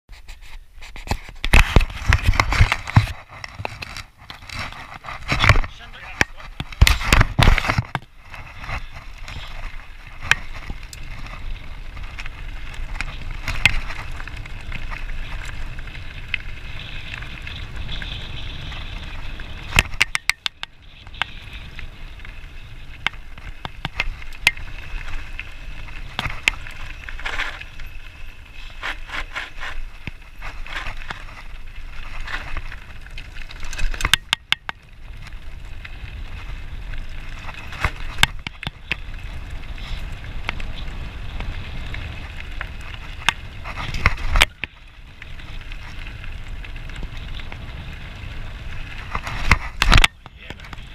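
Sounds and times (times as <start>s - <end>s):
wind rumble: 0.8s - 50.9s
bike frame rattling: 1.0s - 50.9s
tyres crunching over gravel: 1.6s - 50.9s.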